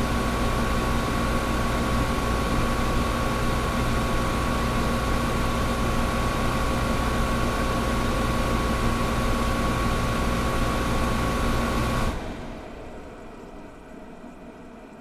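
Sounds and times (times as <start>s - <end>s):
window air conditioner running: 0.0s - 15.0s.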